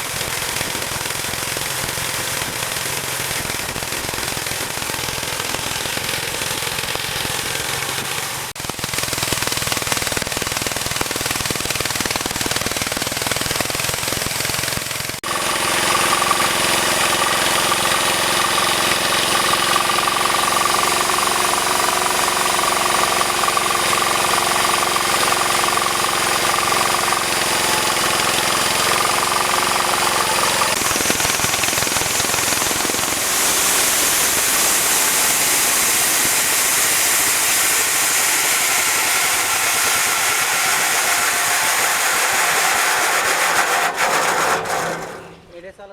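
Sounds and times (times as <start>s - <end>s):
tree-cutting machine engine rattling: 0.0s - 45.9s.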